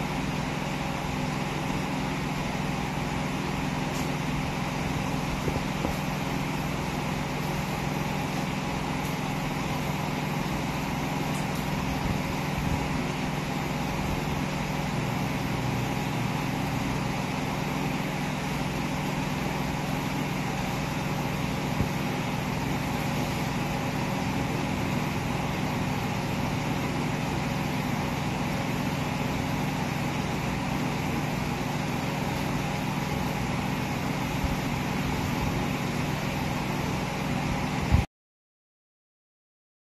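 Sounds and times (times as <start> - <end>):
mechanical hum: 0.0 - 38.1.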